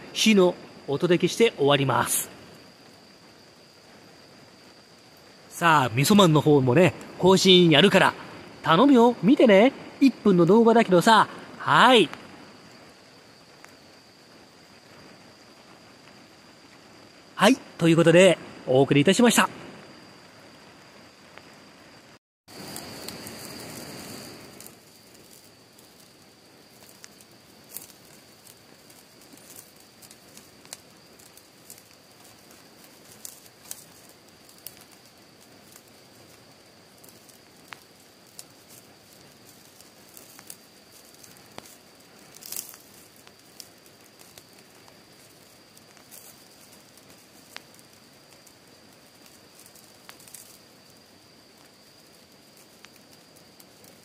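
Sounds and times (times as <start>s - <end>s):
soft steady hiss: 0.0s - 54.0s
wood fire crackling and popping: 0.0s - 54.0s.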